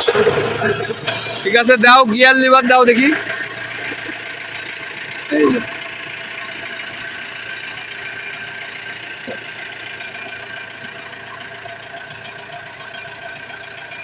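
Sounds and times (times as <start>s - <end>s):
road roller engine humming: 0.0s - 14.0s.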